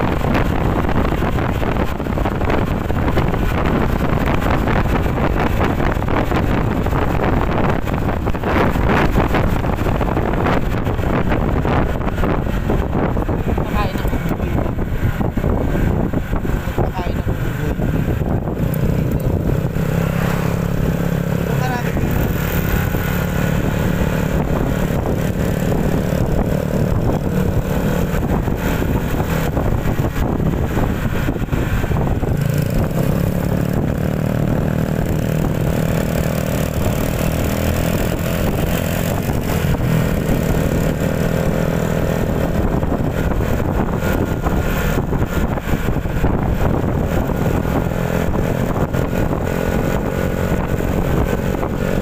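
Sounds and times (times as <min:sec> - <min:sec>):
motorcycle engine running: 0:00.0 - 0:52.0
wind and road noise: 0:00.0 - 0:52.0.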